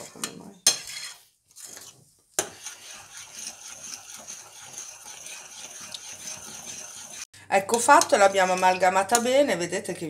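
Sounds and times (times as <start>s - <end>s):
spoon stirring in ceramic bowl: 0.0s - 9.4s.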